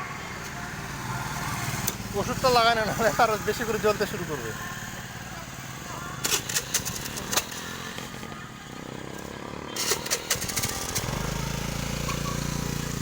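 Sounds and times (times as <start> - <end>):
motorbike engine running: 0.5 - 13.0.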